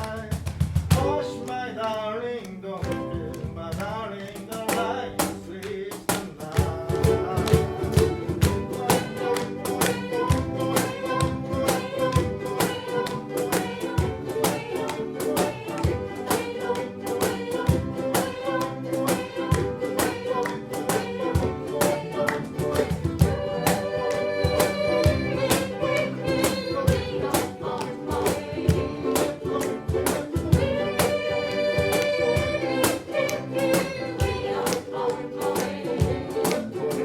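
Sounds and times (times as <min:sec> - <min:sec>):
ukulele ensemble strumming: 0:00.0 - 0:37.0.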